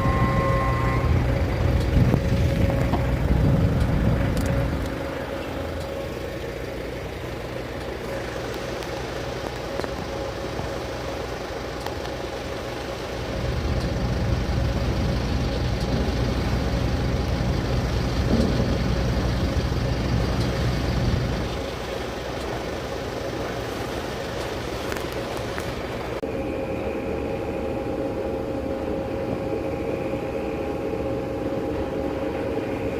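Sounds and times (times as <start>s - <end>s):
ferry engine humming: 0.0s - 32.9s.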